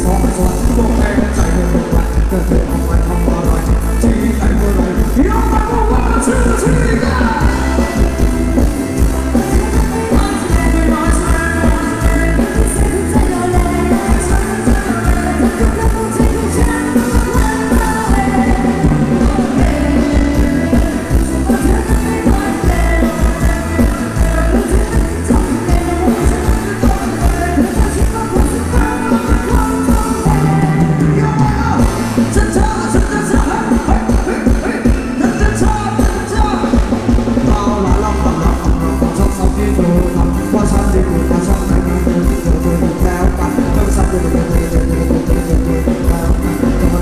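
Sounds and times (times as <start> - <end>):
band playing dance song: 0.0 - 47.0
person singing: 0.0 - 47.0.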